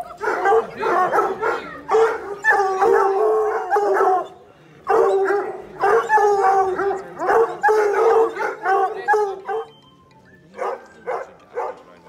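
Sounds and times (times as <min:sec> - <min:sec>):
hounds baying and yelping: 0:00.0 - 0:12.0.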